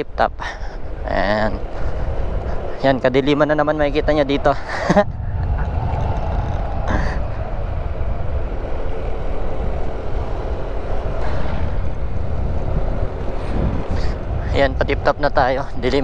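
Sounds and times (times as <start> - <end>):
wind buffeting microphone: 0.0 - 16.0
motorcycle engine running: 0.7 - 16.0.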